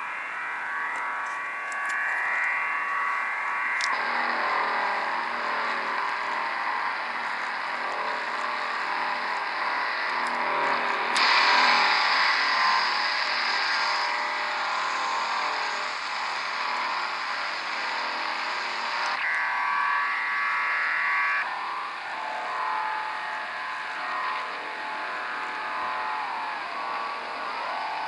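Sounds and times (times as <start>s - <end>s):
shortwave radio buzzing hiss: 0.0s - 28.0s.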